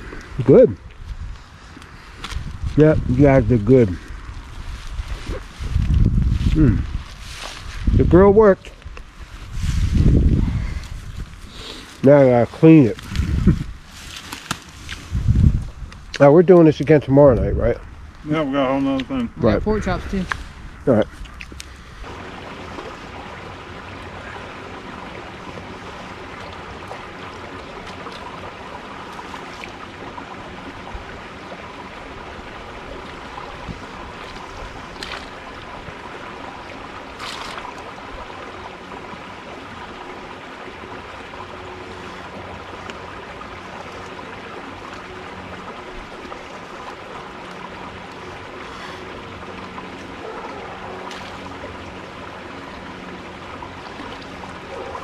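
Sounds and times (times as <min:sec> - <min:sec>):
creek water rushing: 0:00.0 - 0:55.0.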